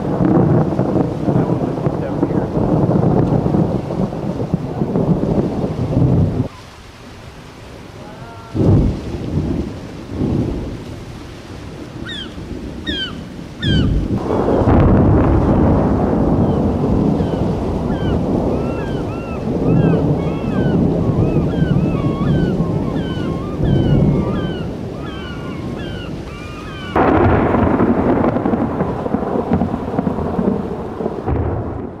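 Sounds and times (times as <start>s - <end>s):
rain: 0.0s - 32.0s
thunder rumbling: 0.0s - 32.0s.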